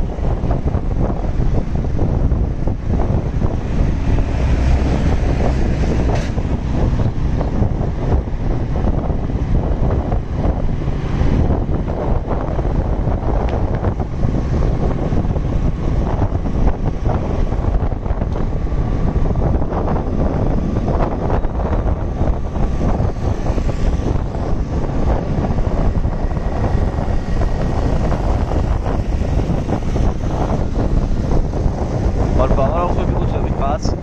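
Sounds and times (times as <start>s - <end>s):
motorcycle engine running: 0.0s - 33.7s
wind rumble on microphone: 0.0s - 34.0s.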